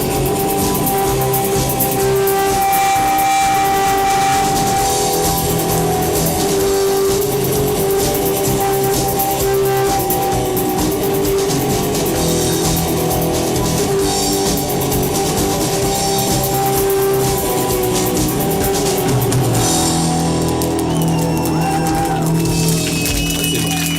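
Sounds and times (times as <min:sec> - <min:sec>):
drum kit: 0:00.0 - 0:23.9
guitars: 0:00.0 - 0:23.9
rock band playing live: 0:00.0 - 0:23.9.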